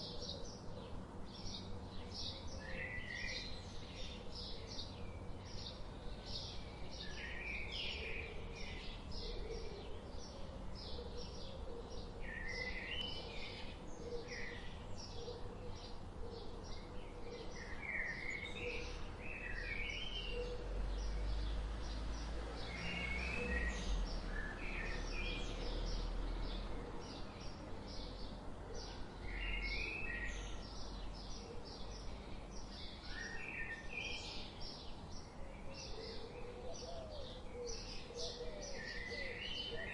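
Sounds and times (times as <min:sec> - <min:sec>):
birds warbling song: 0:00.0 - 0:39.9
songbirds chirping: 0:00.0 - 0:39.9.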